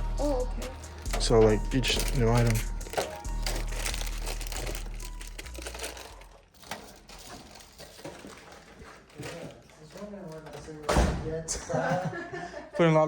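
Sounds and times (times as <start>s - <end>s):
snack wrappers crinkling: 0.0s - 10.8s.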